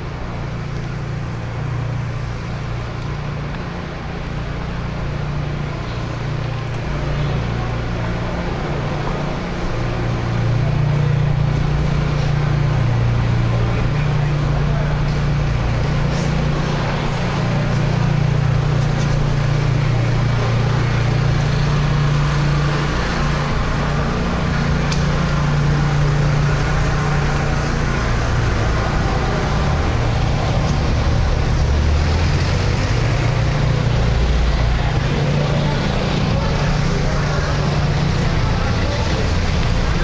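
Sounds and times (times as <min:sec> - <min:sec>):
city street noise: 0:00.0 - 0:40.0
vehicle engine humming: 0:00.0 - 0:40.0.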